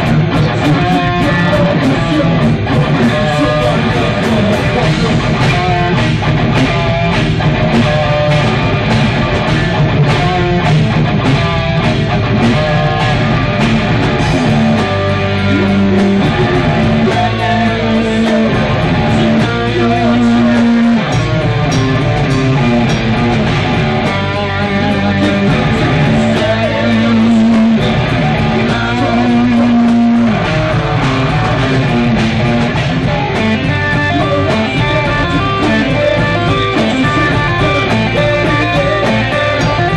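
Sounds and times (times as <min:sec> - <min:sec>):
live metal band playing: 0:00.0 - 0:39.9.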